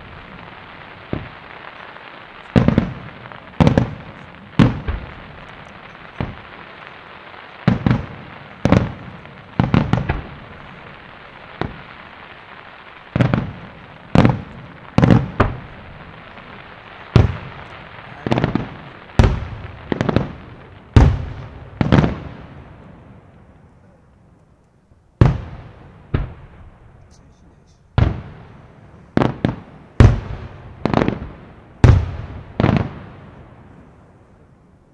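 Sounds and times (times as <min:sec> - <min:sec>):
steady hiss: 0:00.0 - 0:34.9.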